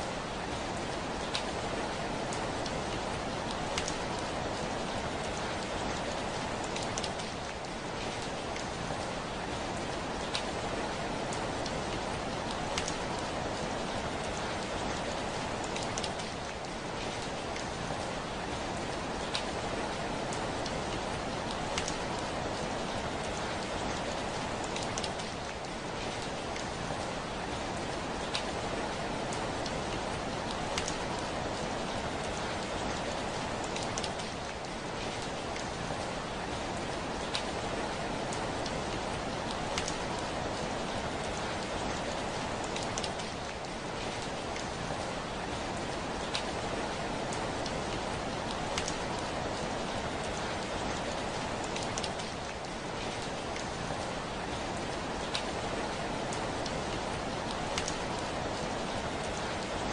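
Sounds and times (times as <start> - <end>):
heavy rain on a window: 0.0 - 59.9.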